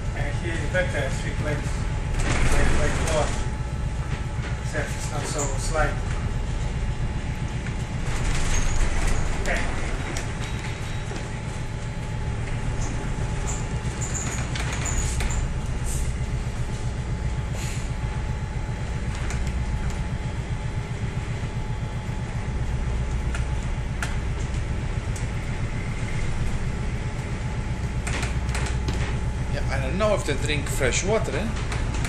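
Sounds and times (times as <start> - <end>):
ship engine drone: 0.0 - 32.0.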